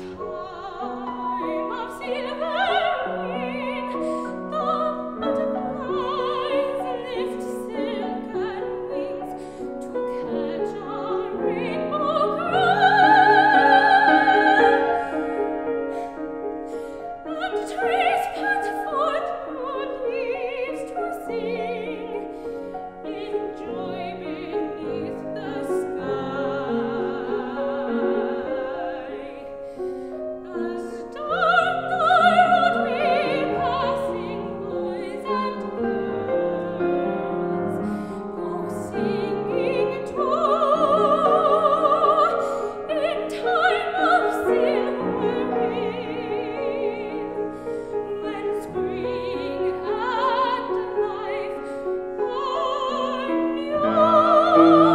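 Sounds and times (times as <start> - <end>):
grand piano accompaniment: 0.0 - 54.9
soprano singing with vibrato: 0.0 - 54.9.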